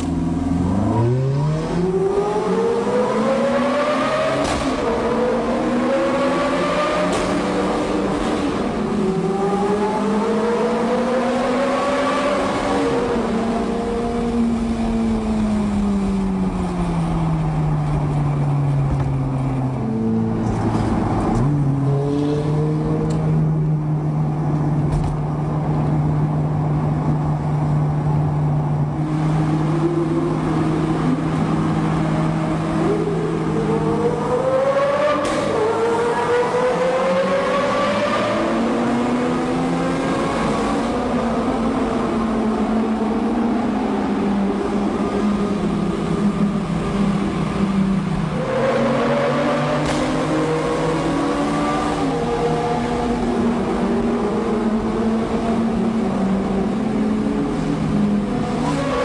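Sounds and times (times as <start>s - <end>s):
car engines at speed: 0.0s - 59.0s.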